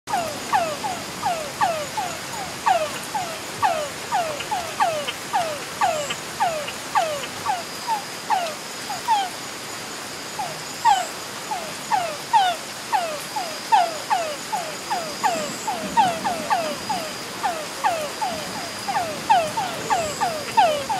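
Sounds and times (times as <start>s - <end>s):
frogs calling: 0.1s - 20.9s.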